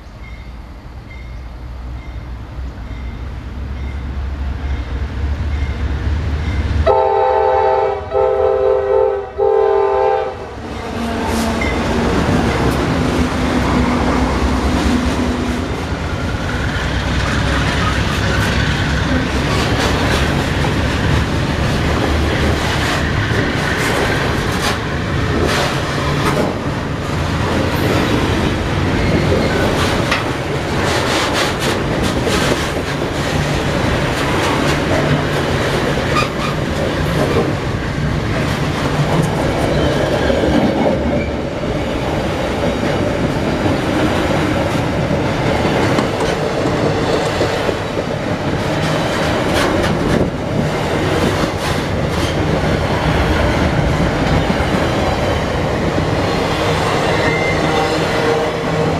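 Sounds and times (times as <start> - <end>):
freight wagons rumbling on rails: 9.9 - 58.9
wheels clacking over rail joints: 10.7 - 58.9.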